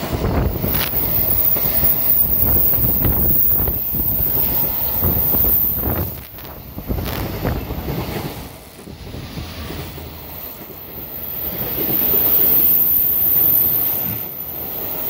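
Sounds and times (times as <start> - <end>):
wind buffeting microphone: 0.0 - 12.9
electric train pulling in: 0.0 - 15.0.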